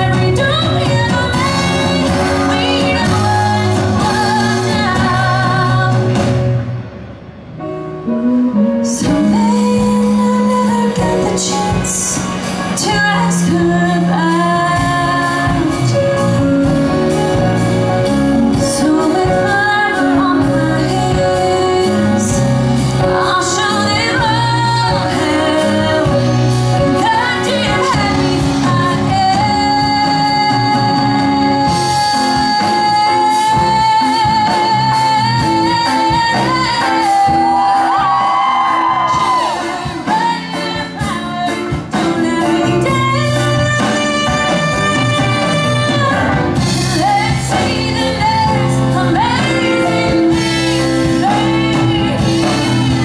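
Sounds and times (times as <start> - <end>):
woman singing into microphone: 0.0 - 6.5, 8.6 - 16.7, 18.5 - 53.0
live band playing: 0.0 - 53.0.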